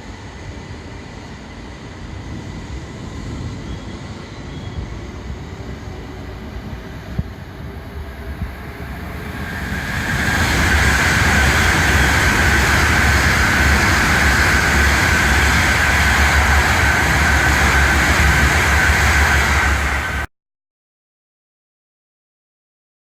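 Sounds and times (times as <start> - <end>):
high-speed train passing: 0.0 - 20.3.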